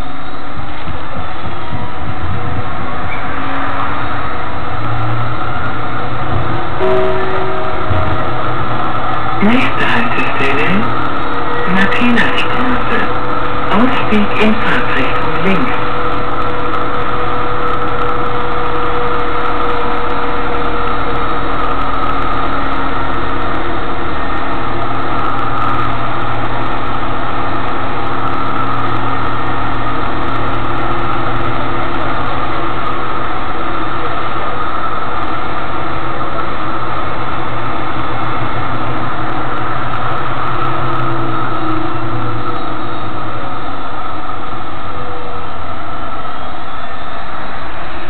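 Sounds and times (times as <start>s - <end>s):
tram running rumble and hum: 0.0s - 48.0s.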